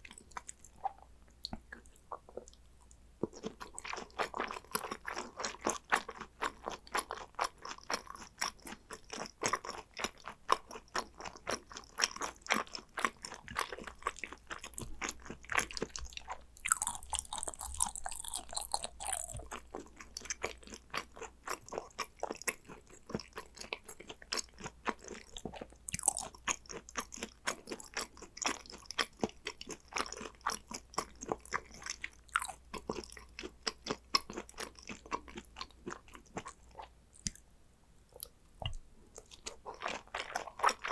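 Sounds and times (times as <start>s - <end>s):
person chewing crunchy food: 0.0s - 37.5s, 38.1s - 40.9s.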